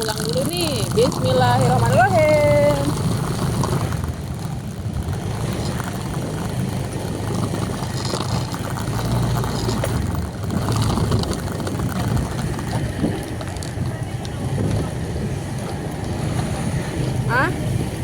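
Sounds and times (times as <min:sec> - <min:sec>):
vehicle engine rumbling: 0:00.0 - 0:18.0
wind noise on microphone: 0:00.0 - 0:18.0.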